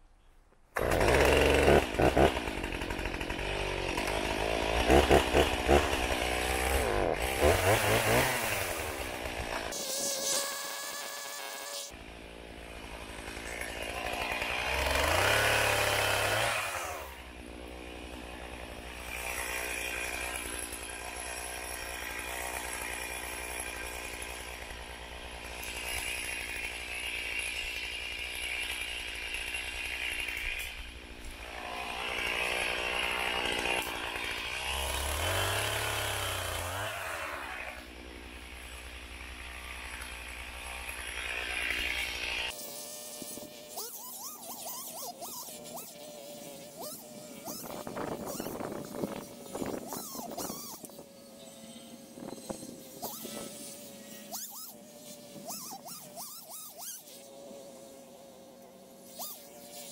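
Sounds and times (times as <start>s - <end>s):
chainsaw idling and revving: 0.8s - 46.0s, 46.6s - 51.0s.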